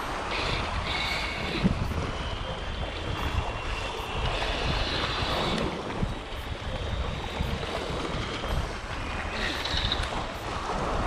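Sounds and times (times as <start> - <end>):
sea waves washing against rocks: 0.0 - 11.0
wind buffeting microphone: 0.0 - 11.0.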